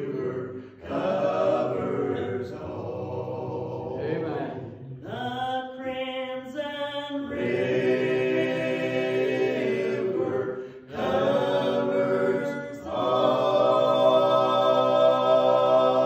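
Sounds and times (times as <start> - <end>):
vocal quartet singing in harmony: 0.0 - 16.0.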